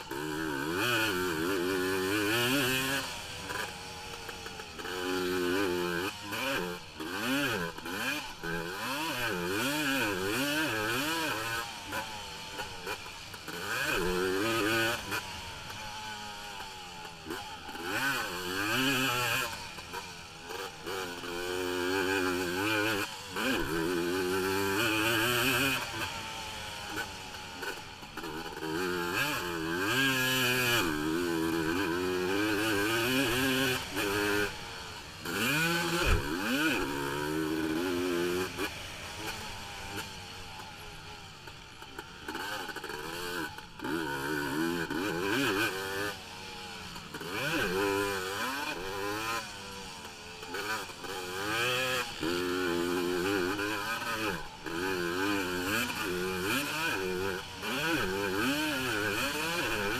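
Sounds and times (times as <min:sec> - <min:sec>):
racing quad engine revving: 0:00.0 - 0:59.9.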